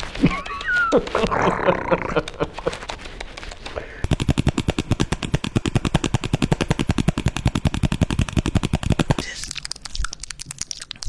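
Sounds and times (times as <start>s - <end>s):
rapid sharp clicks: 2.0s - 11.0s.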